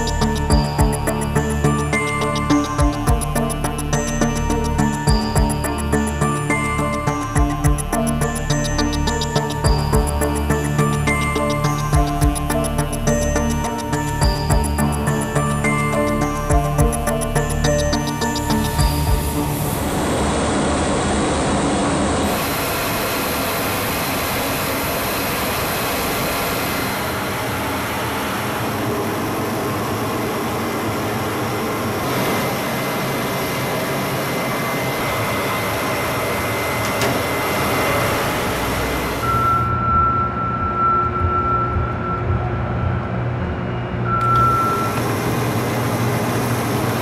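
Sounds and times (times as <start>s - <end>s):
faint high whine: 0.0s - 47.0s.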